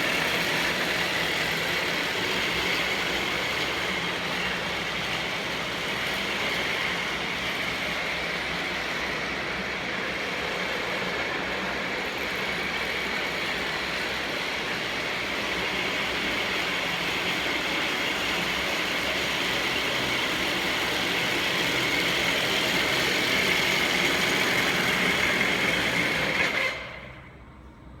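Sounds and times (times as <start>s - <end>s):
machine whining and running down: 0.0s - 28.0s.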